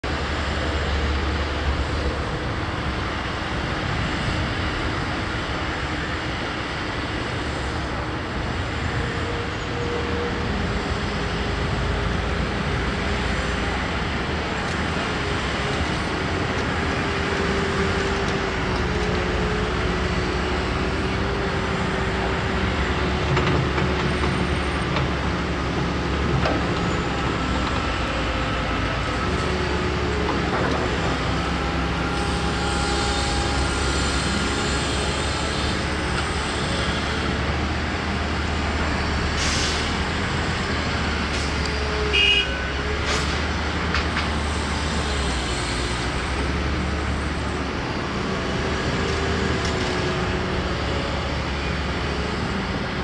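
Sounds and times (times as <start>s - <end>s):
excavator engine and hydraulics: 0.0s - 53.0s
road traffic noise: 0.0s - 53.0s.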